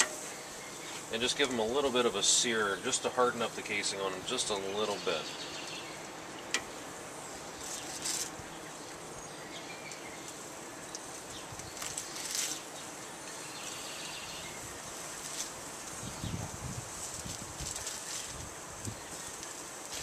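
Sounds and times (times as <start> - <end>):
sausages sizzling on a grill: 0.0 - 20.0.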